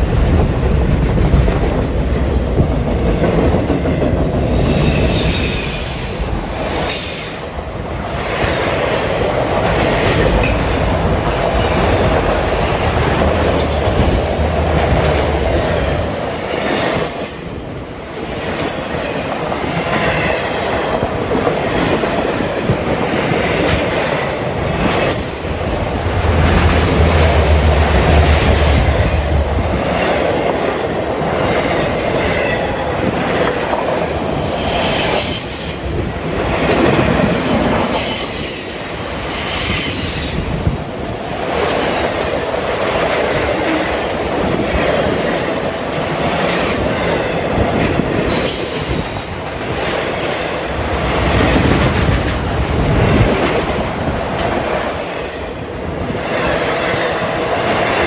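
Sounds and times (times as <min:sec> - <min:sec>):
freight car wheels rumbling on rail: 0:00.0 - 0:58.0.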